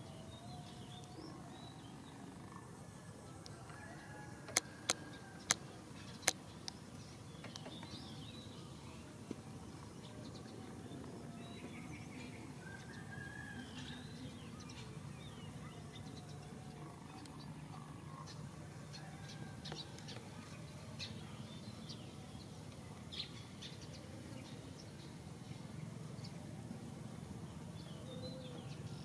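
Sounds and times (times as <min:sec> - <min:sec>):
birds chirping: 0:00.0 - 0:29.0
faint low hum: 0:00.0 - 0:29.0.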